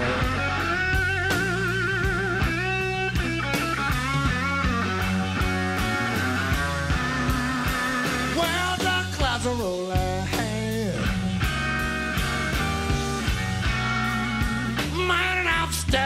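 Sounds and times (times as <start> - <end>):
electric guitar bent notes: 0.0 - 15.2
slow electric blues band: 0.0 - 16.0.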